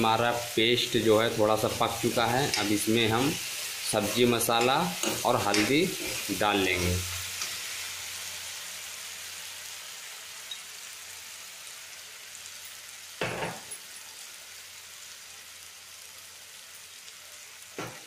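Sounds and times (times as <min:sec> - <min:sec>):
paste sizzling in oil: 0:00.0 - 0:18.0.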